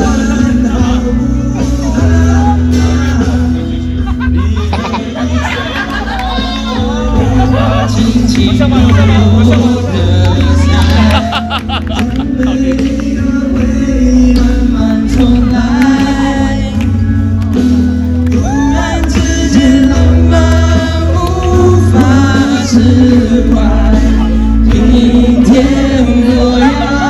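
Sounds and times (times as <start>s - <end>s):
loud pop song with singing: 0.0s - 27.0s.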